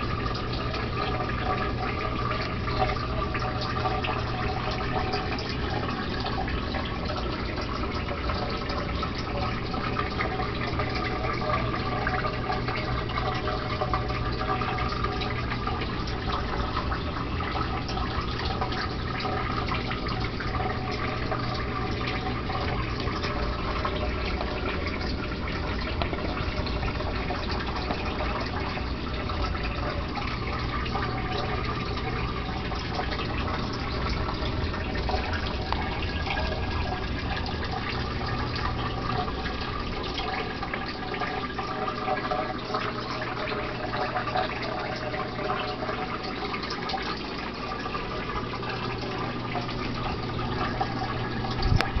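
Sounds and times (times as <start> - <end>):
water trickling and splashing: 0.0 - 52.0.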